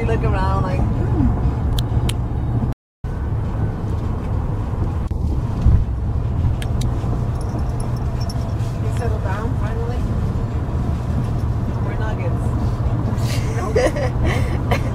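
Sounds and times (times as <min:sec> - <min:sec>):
car cabin rumble while driving: 0:00.0 - 0:14.9.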